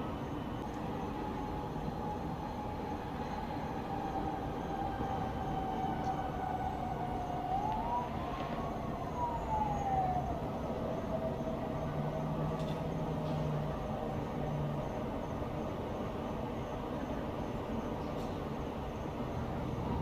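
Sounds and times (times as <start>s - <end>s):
low rumble of traffic: 0.0s - 20.0s
distant siren wailing: 0.6s - 16.1s, 19.0s - 20.0s.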